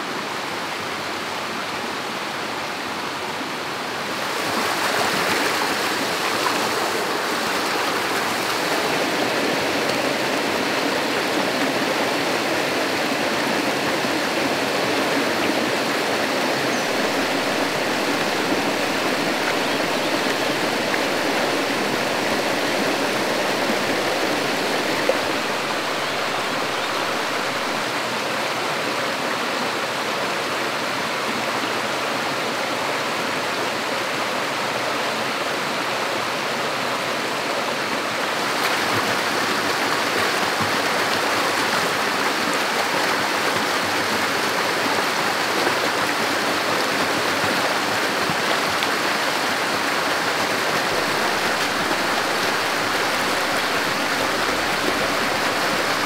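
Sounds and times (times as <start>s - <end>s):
running water rushing: 0.0s - 33.5s, 35.5s - 56.0s.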